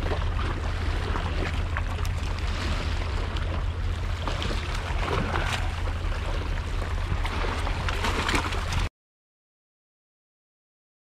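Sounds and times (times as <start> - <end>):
seawater splashing against rocks: 0.0 - 8.9
steady low rumble: 0.0 - 8.9.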